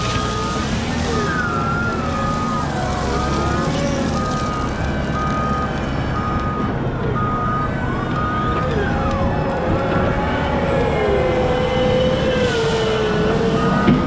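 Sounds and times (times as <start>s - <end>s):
diesel engine running: 0.0s - 14.0s
reversing alarm beeping: 0.0s - 14.0s
whining tones sliding in pitch: 0.0s - 14.0s.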